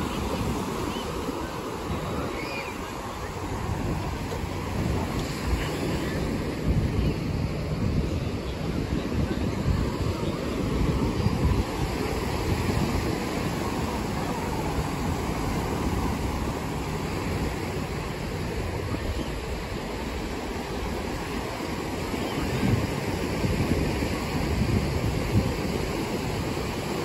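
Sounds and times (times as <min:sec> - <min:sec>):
ocean surf on shore: 0:00.0 - 0:27.0
wind buffeting microphone: 0:00.0 - 0:27.0.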